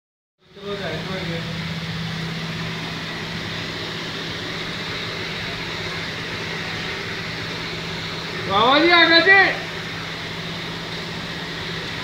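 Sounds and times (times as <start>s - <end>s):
machine hum: 0.4s - 12.0s.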